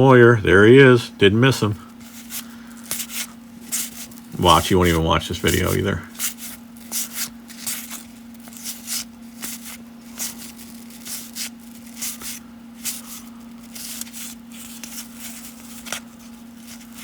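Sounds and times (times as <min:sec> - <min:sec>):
low electrical hum: 0:00.0 - 0:17.0
cards sliding with papery swish: 0:02.0 - 0:17.0.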